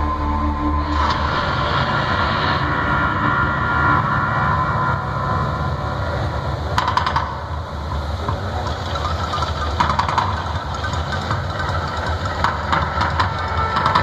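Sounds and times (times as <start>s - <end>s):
deep steady rumble: 0.0s - 14.0s
gas flames crackling: 0.8s - 14.0s.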